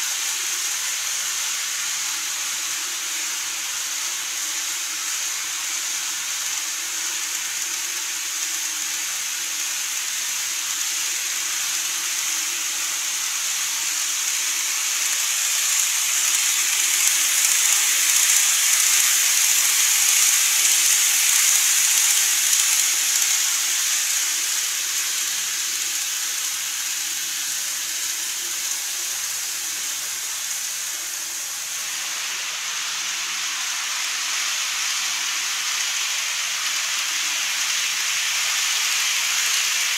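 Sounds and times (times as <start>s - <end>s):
model train running on track: 0.0s - 39.9s.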